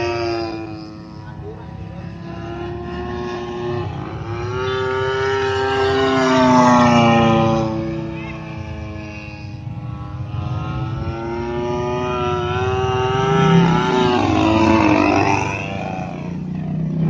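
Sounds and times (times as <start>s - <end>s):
model airplane engine buzzing: 0.0s - 17.0s.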